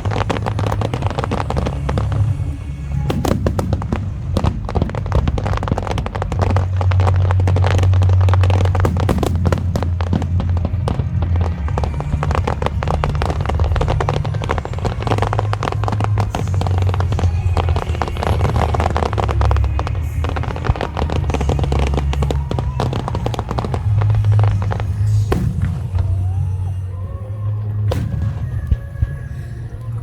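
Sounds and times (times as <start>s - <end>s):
fireworks bursting and crackling: 0.0s - 30.0s
music over loudspeakers: 0.0s - 30.0s.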